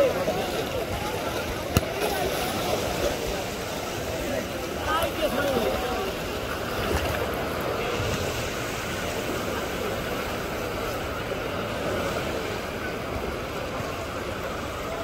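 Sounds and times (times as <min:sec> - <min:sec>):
sea water lapping and splashing: 0:00.0 - 0:15.0.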